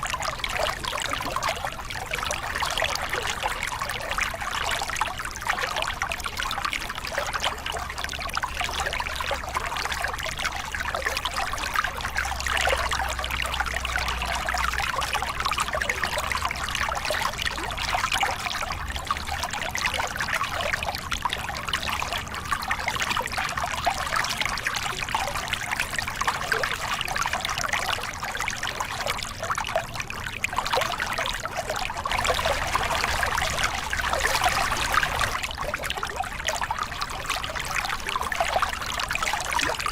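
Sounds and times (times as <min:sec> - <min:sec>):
water pouring over rocks: 0:00.0 - 0:39.9.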